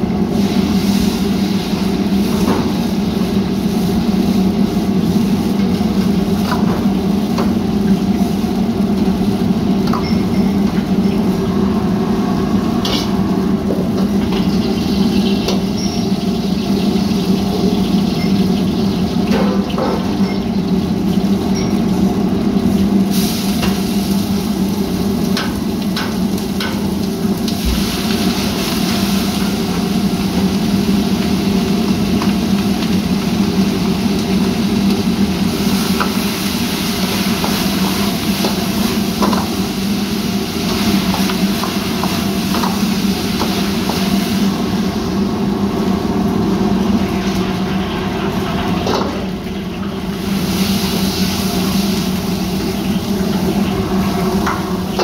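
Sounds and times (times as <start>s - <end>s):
frying food sizzling: 0.0s - 55.0s
gas burners and extraction hum: 0.0s - 55.0s.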